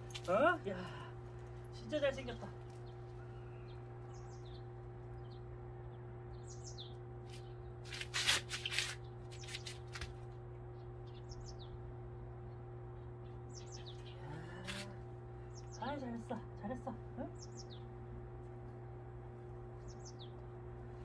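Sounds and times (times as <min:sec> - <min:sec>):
small birds chirping: 0:00.0 - 0:18.8, 0:19.4 - 0:21.0
steady low hum: 0:00.0 - 0:21.0.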